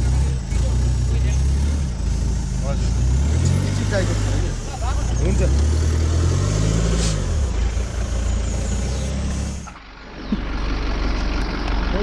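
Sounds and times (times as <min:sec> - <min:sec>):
car engine: 0:00.0 - 0:12.0
road noise: 0:00.0 - 0:12.0.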